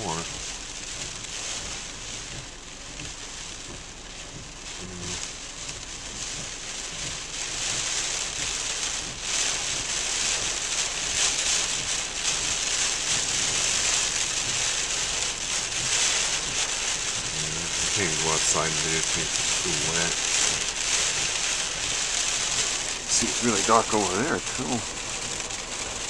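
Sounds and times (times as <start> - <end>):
heavy rain on car roof: 0.0 - 26.0.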